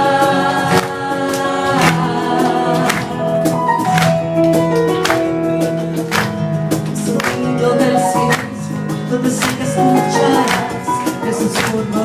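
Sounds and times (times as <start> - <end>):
worship music instrumental: 0.0 - 12.0.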